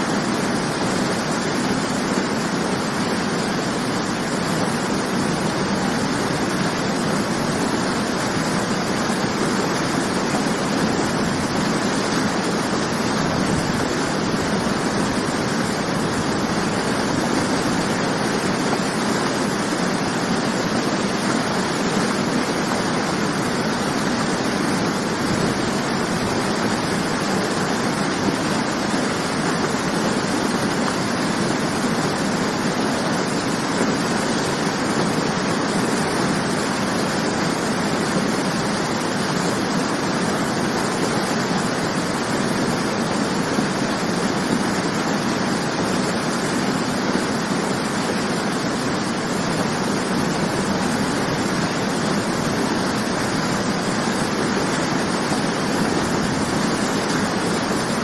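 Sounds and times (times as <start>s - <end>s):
waterfall splashing: 0.0s - 58.0s.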